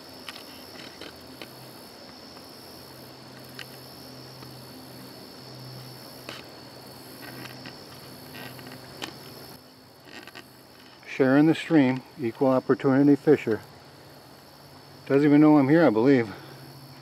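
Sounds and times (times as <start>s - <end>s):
crickets and insects droning: 0.0s - 17.0s.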